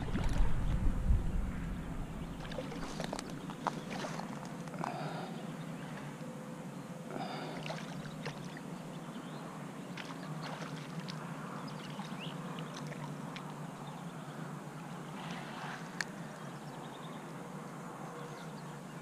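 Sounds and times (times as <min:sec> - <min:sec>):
steady outdoor rush: 0:00.0 - 0:19.0.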